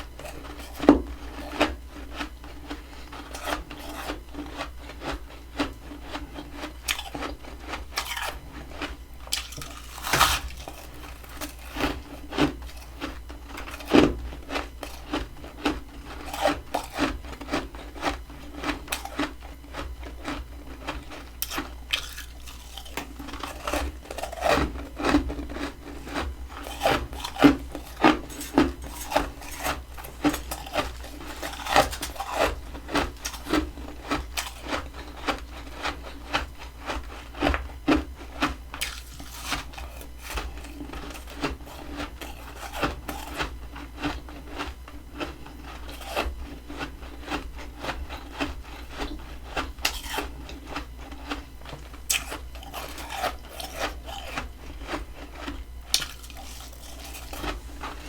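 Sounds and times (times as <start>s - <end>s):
freezer frost crunching: 0.0s - 58.0s.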